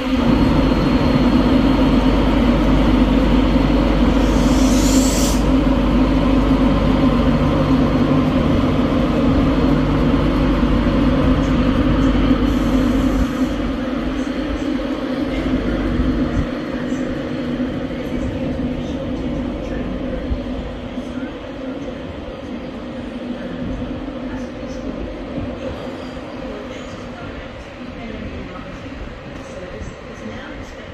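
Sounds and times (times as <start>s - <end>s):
deep train rumble: 0.0s - 30.9s
electric locomotive drone: 0.0s - 30.9s.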